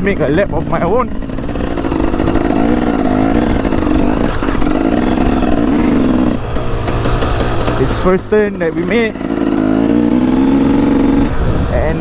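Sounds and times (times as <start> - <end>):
two-stroke dirt bike engine: 0.0 - 12.0.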